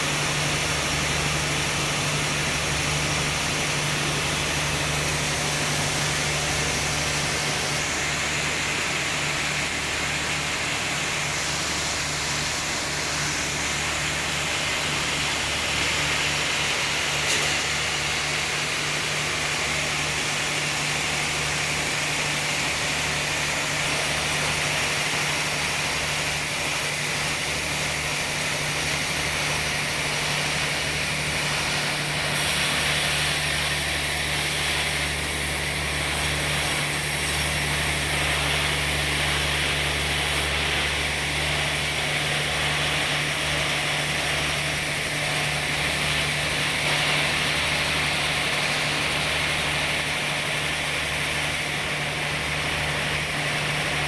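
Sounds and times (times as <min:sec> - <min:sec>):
hiss: 0:00.0 - 0:54.0
sawmill machinery hum: 0:00.0 - 0:54.0.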